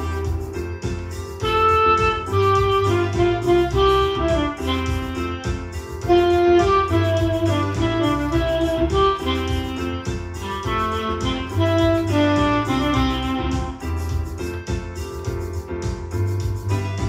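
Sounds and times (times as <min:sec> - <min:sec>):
digital saxophone melody: 0:00.0 - 0:14.9
backing track with bass and piano: 0:00.0 - 0:17.0.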